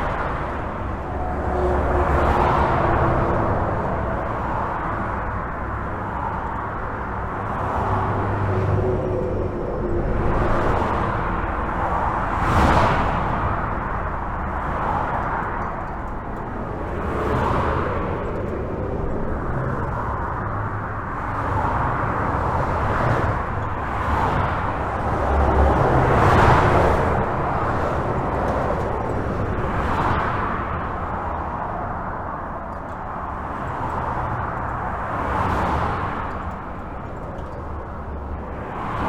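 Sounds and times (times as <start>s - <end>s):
cars passing: 0.0s - 39.0s
highway traffic: 0.0s - 39.0s.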